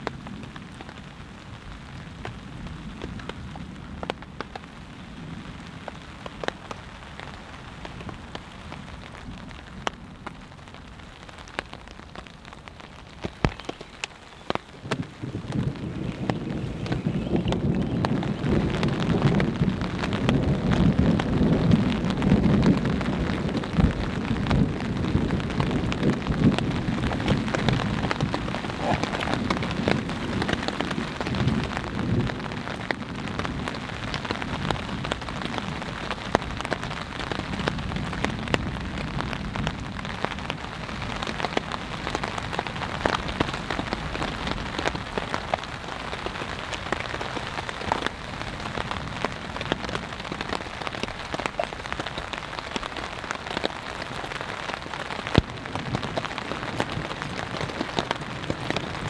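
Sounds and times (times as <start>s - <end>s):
rain falling on a tarp: 0.0s - 59.0s.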